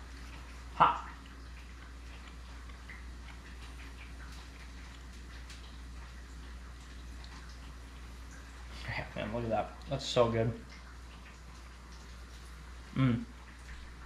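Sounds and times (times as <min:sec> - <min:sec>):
eating sounds: 0:00.0 - 0:14.0
low steady hum: 0:00.0 - 0:14.0.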